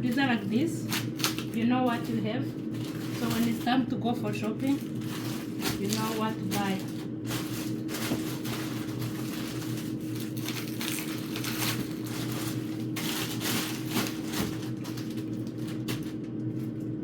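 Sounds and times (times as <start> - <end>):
plastic bags rustling: 0.0 - 17.0
steady low hum: 0.0 - 17.0.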